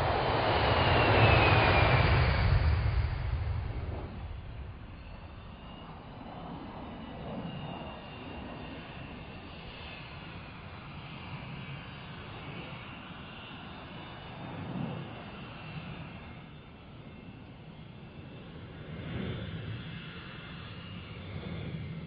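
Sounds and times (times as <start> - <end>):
jet engine rush with high whine: 0.0 - 22.0.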